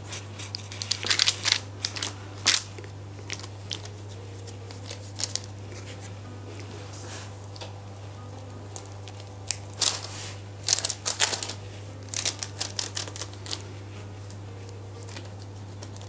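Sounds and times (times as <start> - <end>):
hands shaping dough on paper: 0.0 - 16.0.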